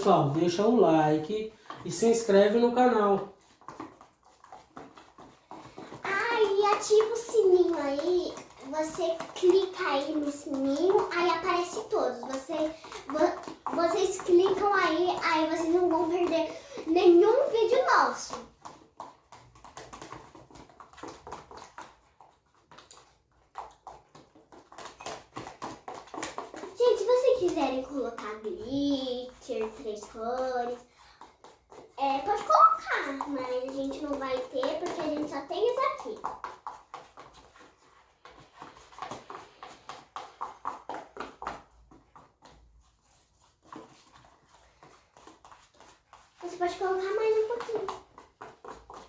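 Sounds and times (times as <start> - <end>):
slime squelching and clicking: 0.0 - 49.0.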